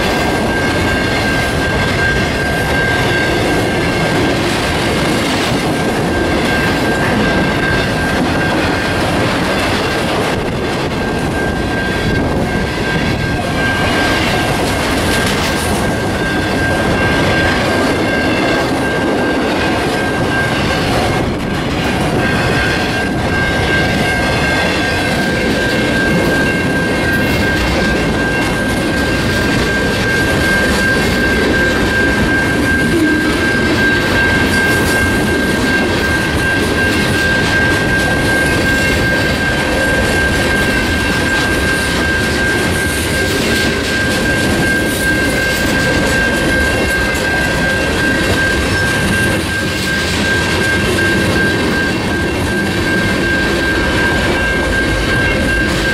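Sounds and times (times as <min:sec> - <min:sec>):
high-pitched squeal: 0:00.0 - 0:55.9
train wheels rumbling on rails: 0:00.0 - 0:55.9.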